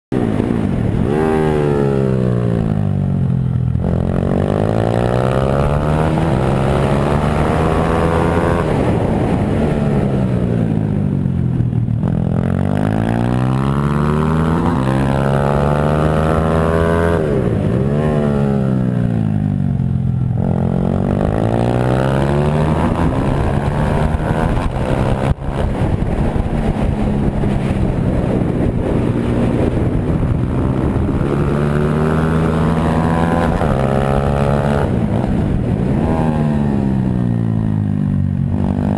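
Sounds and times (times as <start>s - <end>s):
pit bike engine revving: 3.3s - 10.2s, 12.0s - 37.6s.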